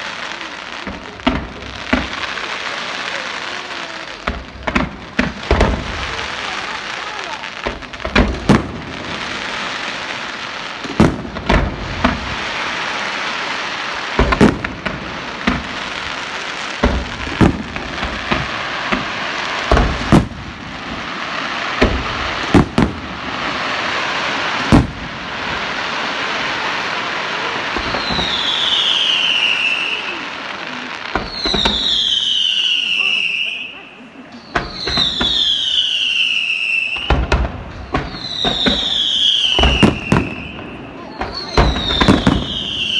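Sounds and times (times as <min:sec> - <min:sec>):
falling firework whistle: 0:00.0 - 0:42.9.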